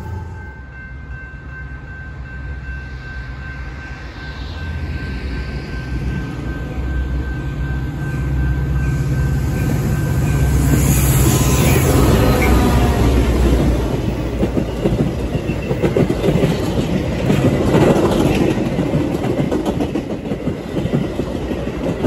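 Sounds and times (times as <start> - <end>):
diesel locomotive engine drone: 0.0 - 22.0
train wheels on rails: 0.0 - 22.0.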